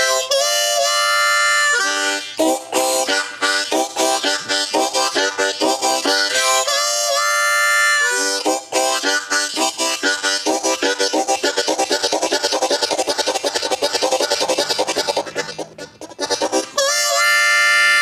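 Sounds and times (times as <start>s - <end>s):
harmonica chugging chords: 0.0s - 18.0s
harmonica whistle bending: 0.0s - 18.0s.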